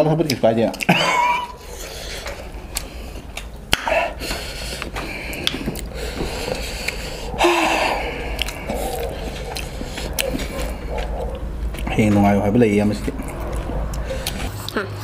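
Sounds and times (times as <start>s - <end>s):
people chewing: 0.0s - 15.0s.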